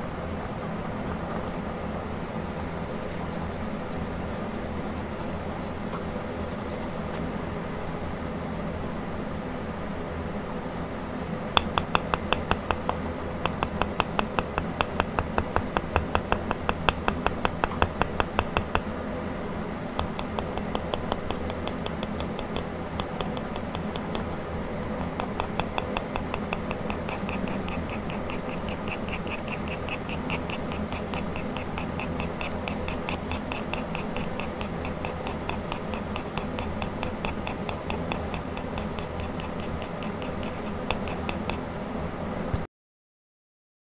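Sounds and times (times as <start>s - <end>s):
pencil scratching on paper: 0.0s - 9.5s, 10.3s - 18.8s, 20.0s - 42.6s.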